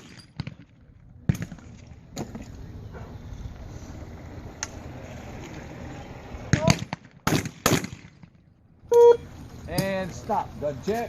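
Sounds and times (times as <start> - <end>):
low outdoor background: 0.0 - 11.0.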